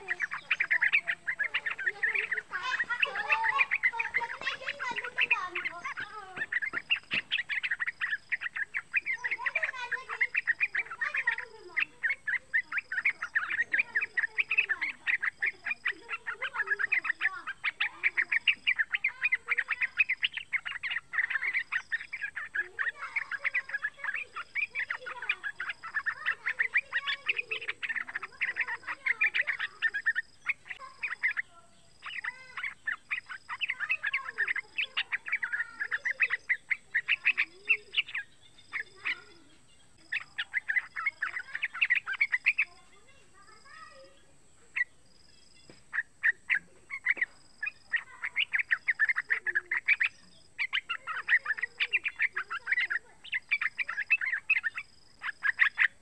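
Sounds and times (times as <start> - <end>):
bird chattering warble: 0.0 - 56.0.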